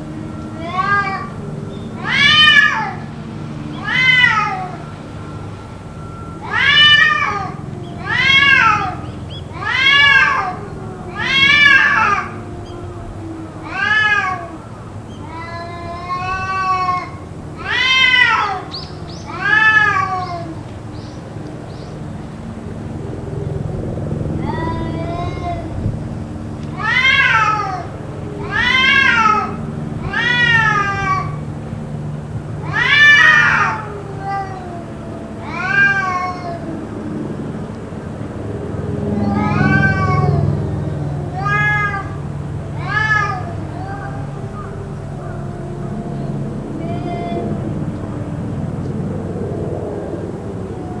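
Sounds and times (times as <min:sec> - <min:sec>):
cat yowling: 0:00.0 - 0:21.9, 0:24.3 - 0:25.9, 0:26.6 - 0:31.5, 0:32.6 - 0:37.2, 0:38.8 - 0:49.0, 0:49.9 - 0:51.0.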